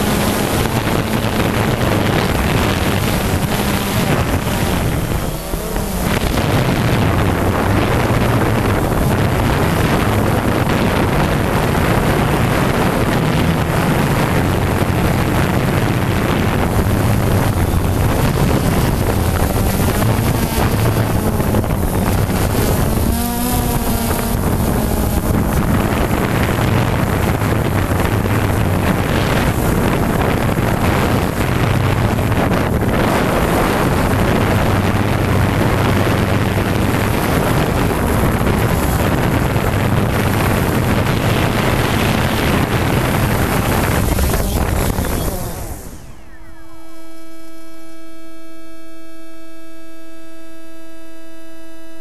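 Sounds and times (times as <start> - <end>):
drone propellers buzzing: 0.0 - 52.0
wind noise on microphone: 0.0 - 52.0.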